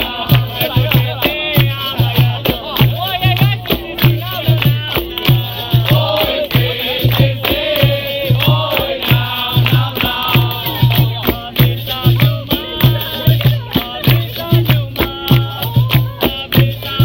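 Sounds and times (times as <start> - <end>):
rattling percussion: 0.0 - 17.0
steady drum beat: 0.0 - 17.0
voices singing: 0.0 - 17.0.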